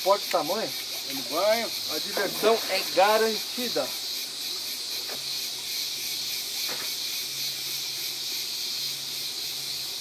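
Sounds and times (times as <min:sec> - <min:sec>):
high-pitched outdoor hiss: 0:00.0 - 0:10.0.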